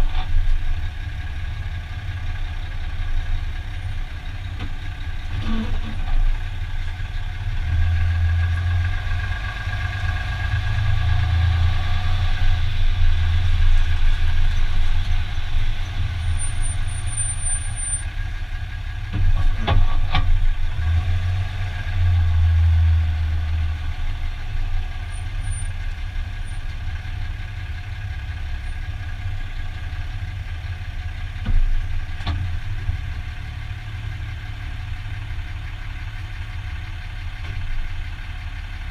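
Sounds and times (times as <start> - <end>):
engine whine: 0.0 - 35.3
pickup engine running low: 0.0 - 38.9.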